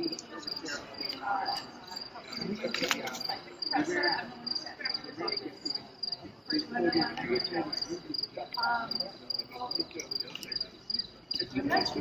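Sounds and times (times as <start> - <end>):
crickets chirping: 0.0 - 12.0
people talking indistinctly: 0.0 - 12.0.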